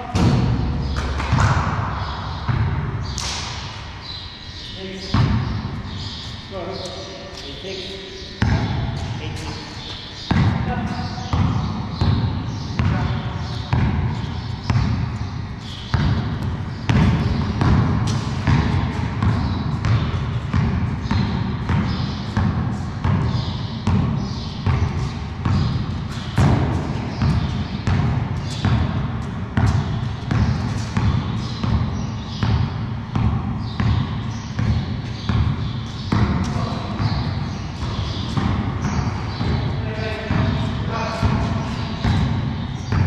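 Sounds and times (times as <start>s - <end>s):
basketball bouncing on concrete: 0.0s - 3.5s, 4.9s - 6.0s, 8.3s - 43.0s.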